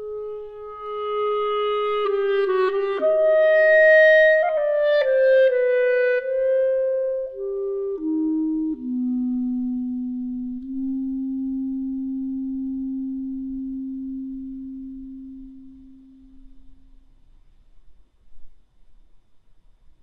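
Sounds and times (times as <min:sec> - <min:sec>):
clarinet playing slow melody: 0:00.0 - 0:17.3.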